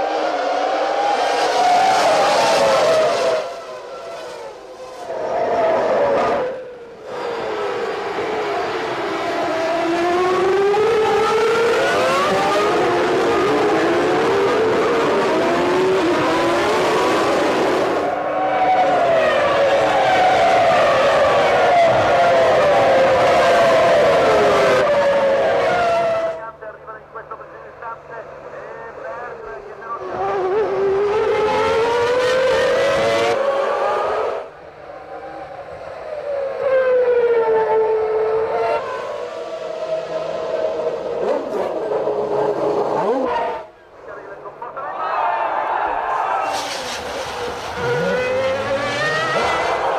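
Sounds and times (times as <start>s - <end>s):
racing car engines at high revs: 0.0s - 26.4s, 29.8s - 43.8s, 46.1s - 49.9s.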